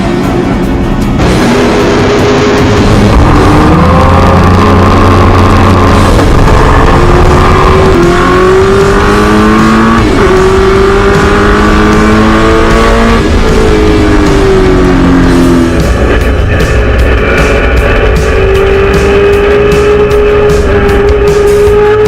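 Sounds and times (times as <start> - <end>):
racing engine at full throttle: 0.0 - 22.0.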